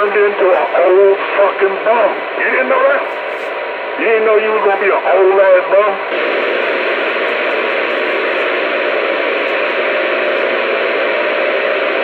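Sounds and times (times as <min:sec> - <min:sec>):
faint hum: 0:00.0 - 0:12.0
loud static hiss: 0:00.0 - 0:12.0.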